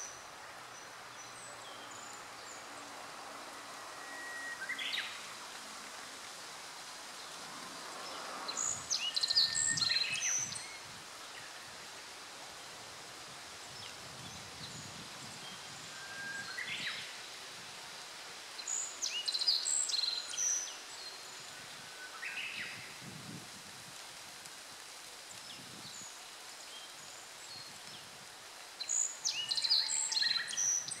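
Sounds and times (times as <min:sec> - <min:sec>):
songbird singing: 0:00.0 - 0:06.1, 0:07.1 - 0:12.1, 0:13.2 - 0:17.4, 0:18.5 - 0:23.0, 0:25.3 - 0:31.0
outdoor background hiss: 0:00.0 - 0:31.0.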